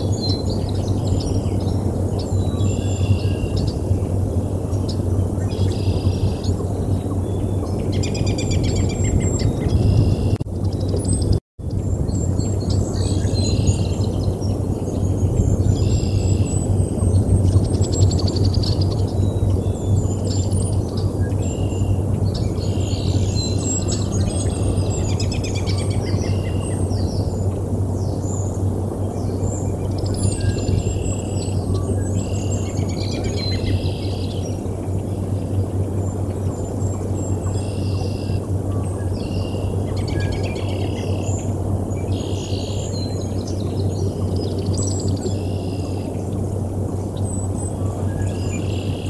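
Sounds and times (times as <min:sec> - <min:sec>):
birds chirping and trilling: 0:00.0 - 0:46.3, 0:47.2 - 0:49.0
steady low rumble: 0:00.0 - 0:49.0.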